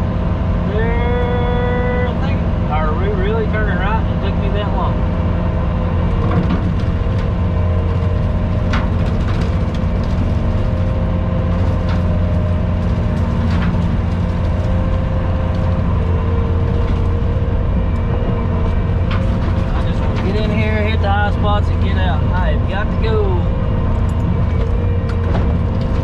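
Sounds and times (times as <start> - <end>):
skid steer engine droning: 0.0 - 26.0.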